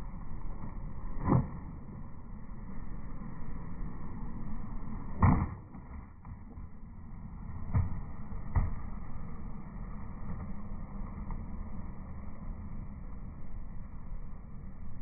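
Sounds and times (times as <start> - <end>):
skateboard wheels rolling on concrete: 0.0 - 15.0.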